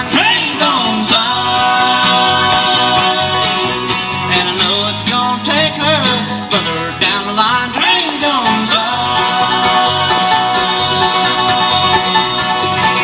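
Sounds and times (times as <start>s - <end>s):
banjo picking: 0.0s - 13.0s
bluegrass band playing: 0.0s - 13.0s.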